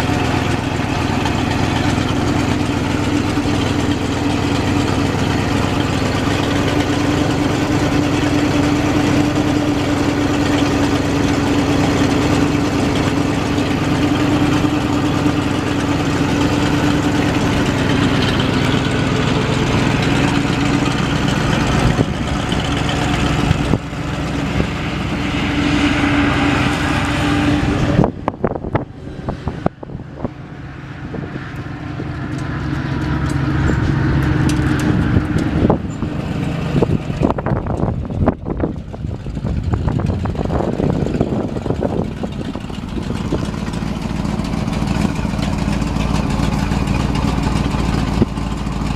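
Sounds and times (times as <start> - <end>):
engine knocks: 0.0 - 48.9
truck engine running: 0.0 - 48.9.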